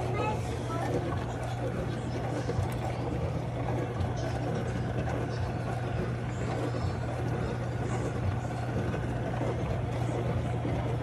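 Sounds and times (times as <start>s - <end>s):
dishwasher running: 0.0s - 11.0s.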